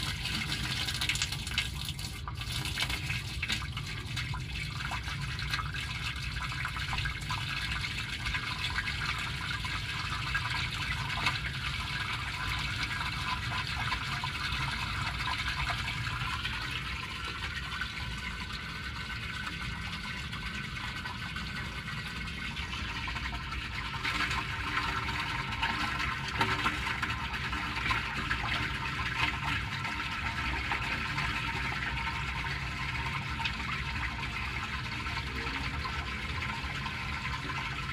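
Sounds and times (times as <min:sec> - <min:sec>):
water gushing into drain pit: 0:00.0 - 0:37.9.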